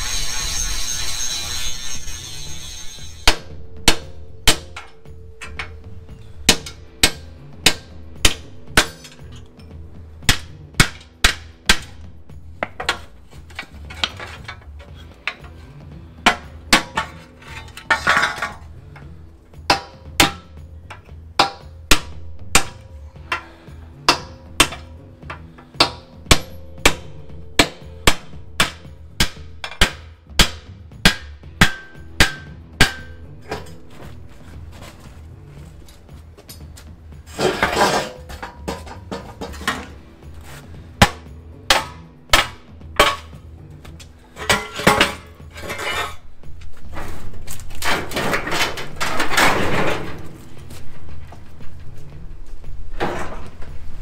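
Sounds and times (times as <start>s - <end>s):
metal scraping: 0.0s - 21.7s, 31.6s - 54.0s.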